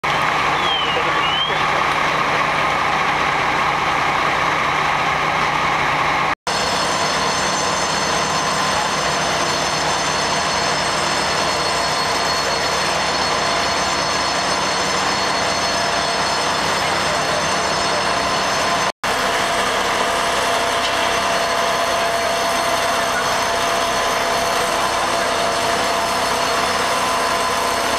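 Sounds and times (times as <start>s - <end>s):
fire engine mechanical drone: 0.0s - 27.9s.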